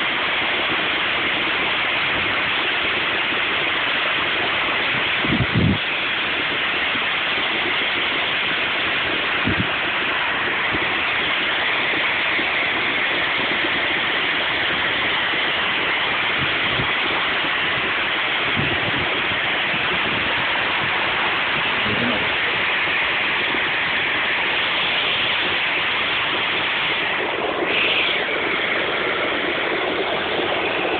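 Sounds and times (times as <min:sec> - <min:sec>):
floodwater roaring: 0:00.0 - 0:30.9.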